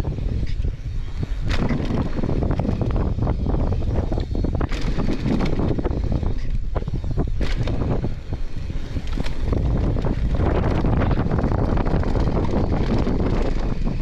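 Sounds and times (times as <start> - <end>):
bike knocks and rattles: 0.0 - 14.0
wind buffeting microphone: 0.0 - 14.0.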